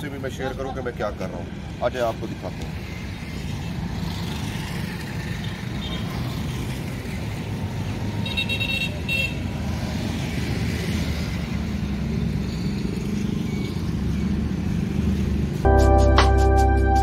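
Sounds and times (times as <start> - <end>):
vehicle engines rumbling: 0.0 - 15.8.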